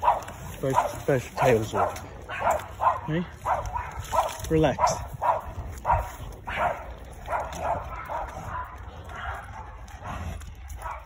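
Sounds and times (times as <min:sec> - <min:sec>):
small dogs yapping: 0:00.0 - 0:11.0.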